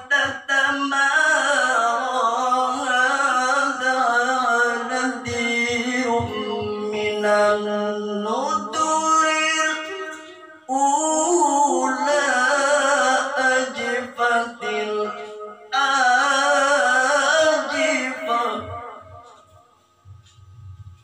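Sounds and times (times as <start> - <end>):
man reciting in melismatic chant: 0.0 - 19.6.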